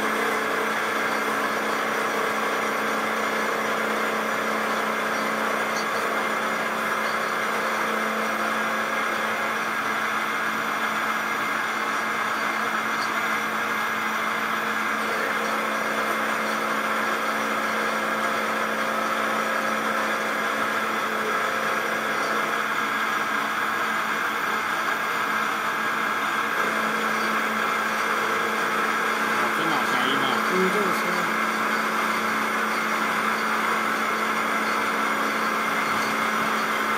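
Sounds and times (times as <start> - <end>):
coolant jet: 0.0 - 36.9
end mill cutting metal: 0.0 - 36.9
milling spindle humming: 0.0 - 36.9.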